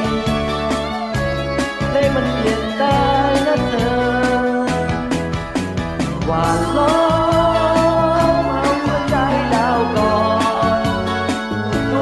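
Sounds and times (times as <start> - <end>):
pop backing music: 0.0 - 12.0.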